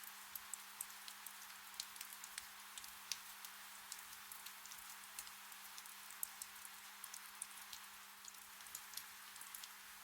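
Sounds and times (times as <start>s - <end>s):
raindrops ticking: 0.0s - 9.8s
gentle rain falling: 0.0s - 10.0s.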